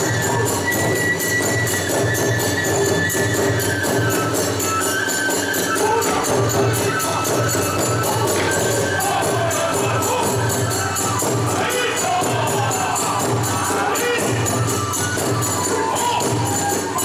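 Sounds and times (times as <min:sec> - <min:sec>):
high flute melody: 0:00.0 - 0:17.0.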